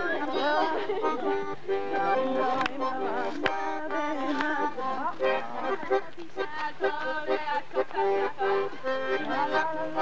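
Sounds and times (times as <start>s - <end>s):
accordion playing chords: 0.0s - 10.0s.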